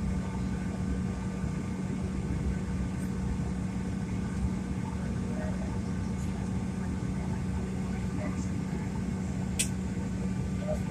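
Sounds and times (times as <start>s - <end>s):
airliner cabin hum: 0.0s - 10.9s
rush of air and engine noise: 0.0s - 10.9s.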